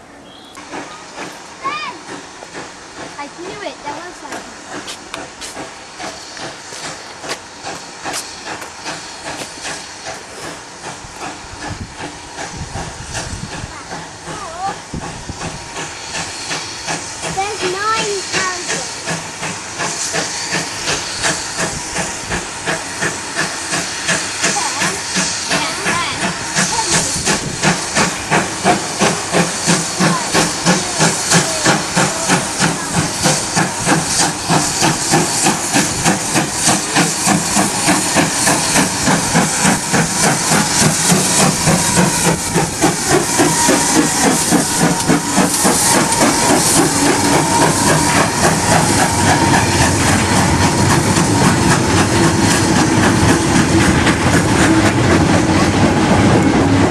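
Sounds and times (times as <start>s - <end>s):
steam hissing: 0.0s - 56.9s
steam locomotive chuffing: 0.0s - 56.9s.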